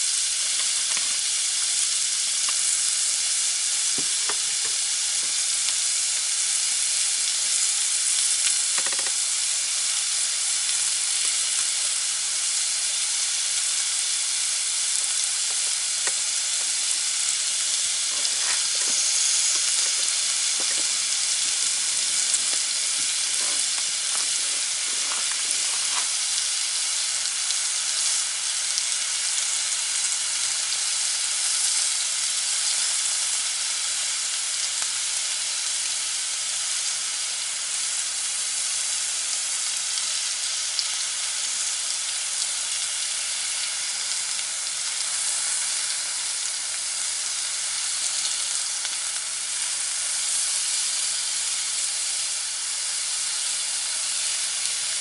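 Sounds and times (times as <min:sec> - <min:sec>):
meat sizzling on grill: 0:00.0 - 0:55.0.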